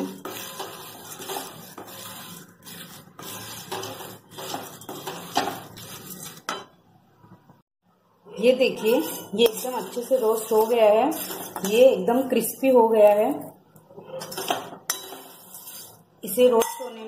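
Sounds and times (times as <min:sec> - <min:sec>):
spatula scraping metal pan: 0:00.0 - 0:06.7, 0:08.4 - 0:16.4.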